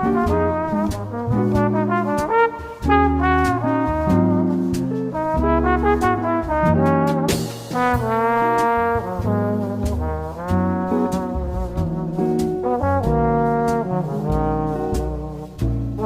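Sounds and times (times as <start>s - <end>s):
brass music with bass and drums: 0.0s - 16.0s.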